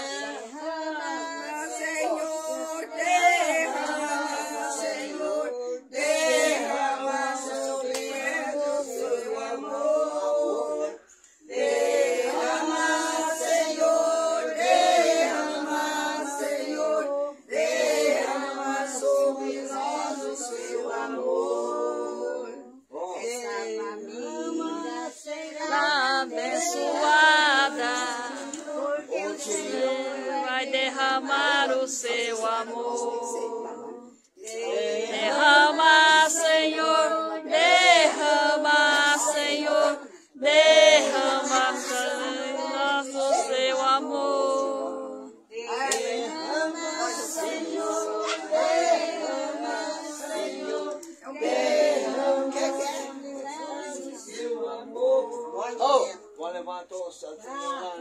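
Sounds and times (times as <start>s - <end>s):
group singing a hymn: 0.0s - 56.6s.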